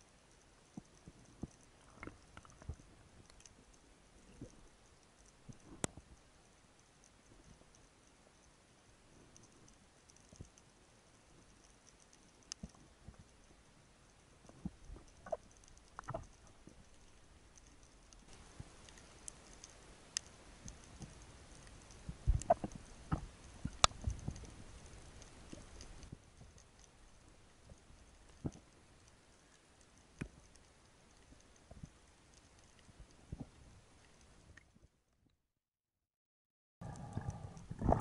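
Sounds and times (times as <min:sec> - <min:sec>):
underwater clicks and snaps: 0:00.3 - 0:06.3, 0:09.3 - 0:10.7, 0:11.4 - 0:27.0, 0:27.6 - 0:34.9, 0:36.8 - 0:38.0.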